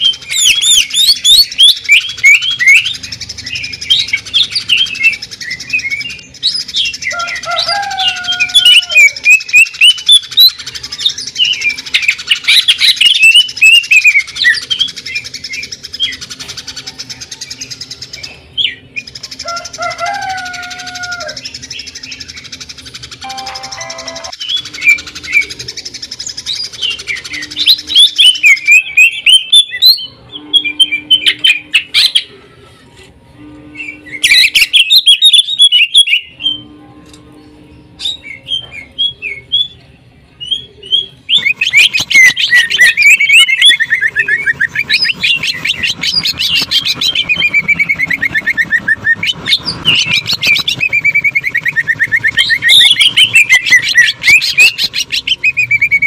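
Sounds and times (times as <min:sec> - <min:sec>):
bird singing rapid trills: 0:00.0 - 0:32.5, 0:33.4 - 0:39.8, 0:40.4 - 0:56.0.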